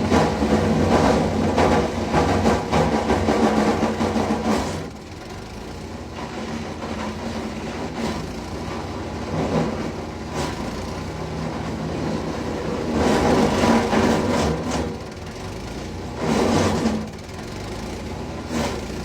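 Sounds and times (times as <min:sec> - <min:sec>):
wood chipper running: 0:00.0 - 0:19.0.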